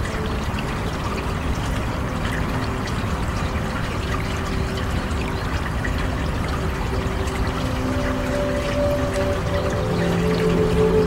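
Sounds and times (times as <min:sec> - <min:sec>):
stream water over stones: 0:00.0 - 0:11.0.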